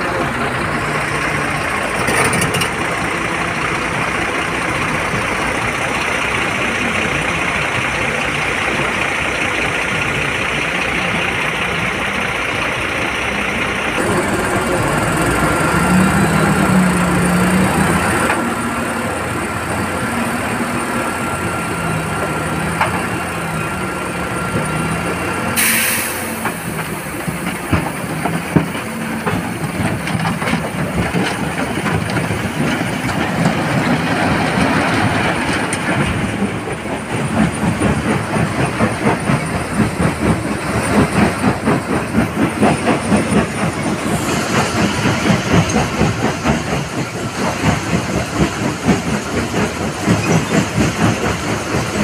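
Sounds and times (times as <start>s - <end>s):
rhythmic clatter of stone crusher: 0.0s - 25.2s, 26.3s - 52.0s
truck diesel engine whining: 0.0s - 52.0s.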